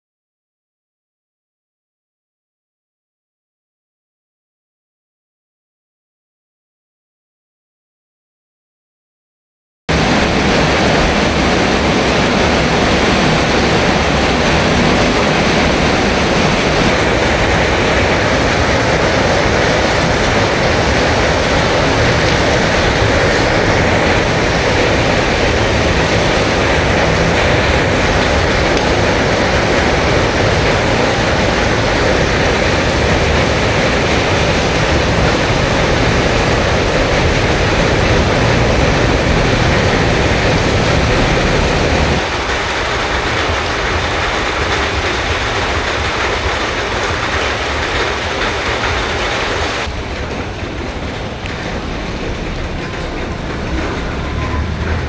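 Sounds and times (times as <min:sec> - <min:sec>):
heavy rain pouring: 0:09.9 - 0:55.0.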